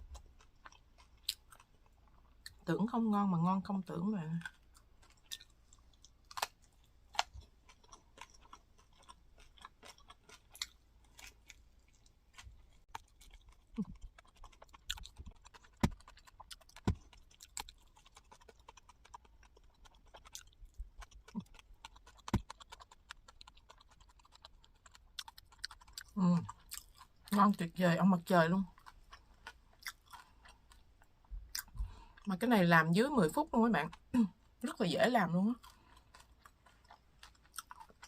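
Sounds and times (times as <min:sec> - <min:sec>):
chewing crispy food: 0:00.0 - 0:38.0.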